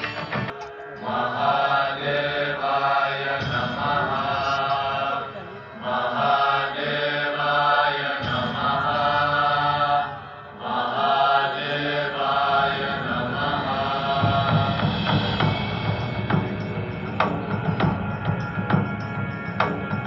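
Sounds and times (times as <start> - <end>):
group chanting: 0.0 - 20.0
low drone: 0.0 - 20.0.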